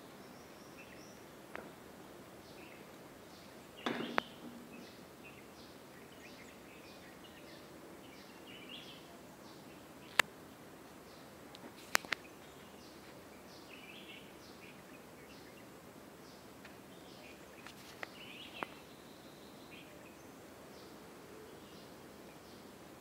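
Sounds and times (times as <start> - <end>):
small birds chirping: 0.0 - 10.3, 11.0 - 22.8.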